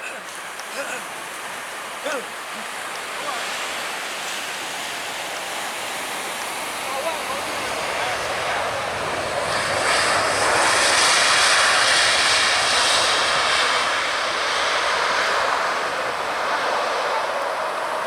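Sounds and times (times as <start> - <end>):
high jet engine whine: 0.0 - 18.0
jet engines roaring past: 0.2 - 18.0.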